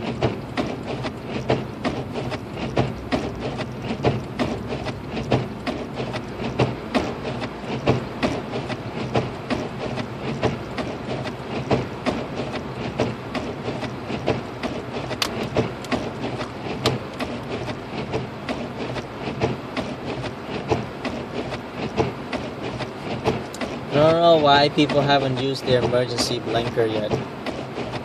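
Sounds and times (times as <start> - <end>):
car engine and road hum: 0.0 - 28.0
tyres rushing through snow: 0.0 - 28.0.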